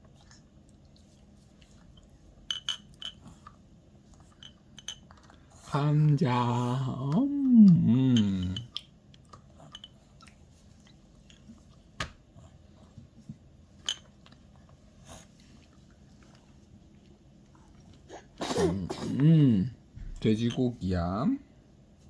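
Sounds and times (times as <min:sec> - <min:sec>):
baby chewing and mouth sounds: 0:00.0 - 0:19.0.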